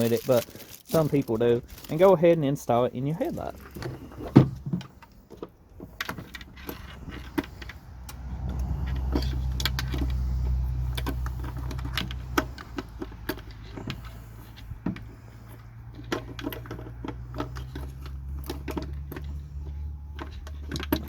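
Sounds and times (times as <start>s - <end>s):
low steady engine rumble: 0.0s - 21.0s.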